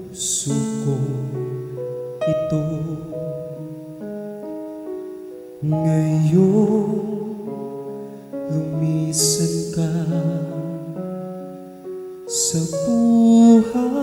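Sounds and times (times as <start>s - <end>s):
man singing with vibrato: 0.0s - 4.6s, 5.4s - 11.5s, 12.2s - 14.0s.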